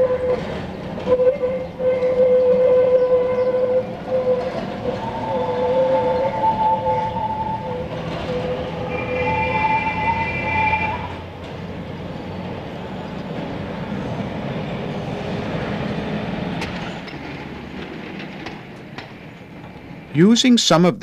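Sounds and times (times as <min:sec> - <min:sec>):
tram running on track: 0:00.0 - 0:21.0.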